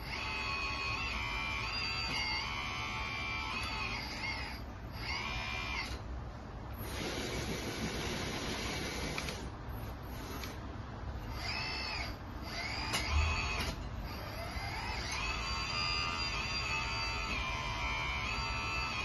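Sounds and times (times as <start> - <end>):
hydraulic pump whine: 0.0 - 6.1, 6.7 - 10.6, 11.2 - 19.0.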